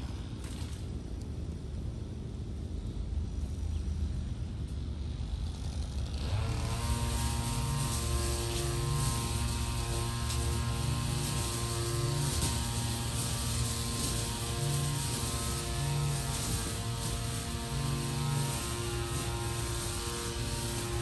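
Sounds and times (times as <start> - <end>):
engine hum with overtones: 0.0 - 21.0.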